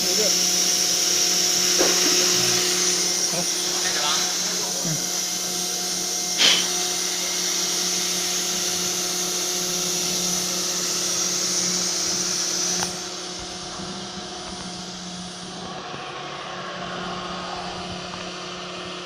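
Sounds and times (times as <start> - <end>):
cutter hissing in metal: 0.0 - 15.5
router spindle hum: 0.0 - 19.0.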